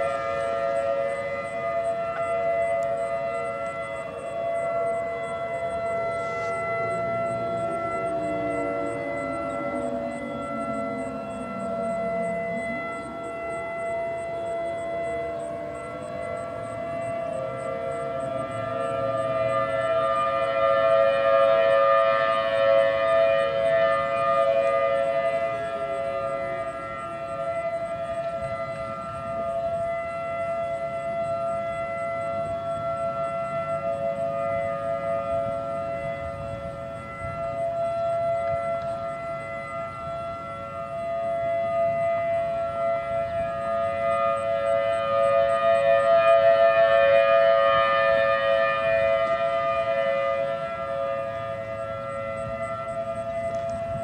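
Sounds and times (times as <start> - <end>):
civil defense sirens wailing: 0.0 - 54.0.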